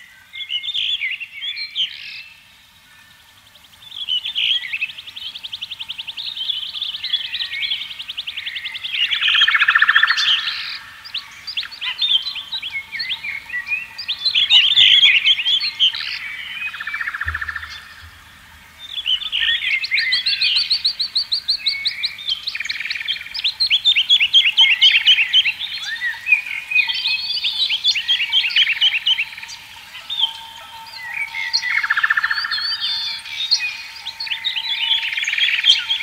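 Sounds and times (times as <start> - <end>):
songbirds chirping and trilling: 0.0 - 36.0.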